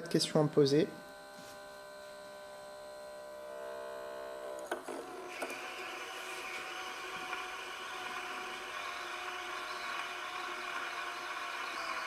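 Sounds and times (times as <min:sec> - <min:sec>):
bobbin winder motor whine: 0:00.8 - 0:12.0.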